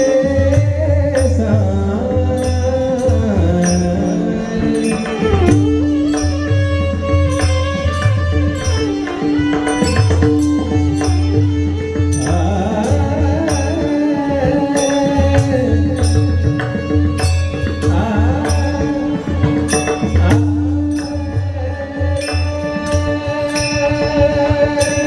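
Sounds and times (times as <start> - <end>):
man singing: 0.0 - 7.3, 9.6 - 25.0
hand drum: 0.0 - 25.0.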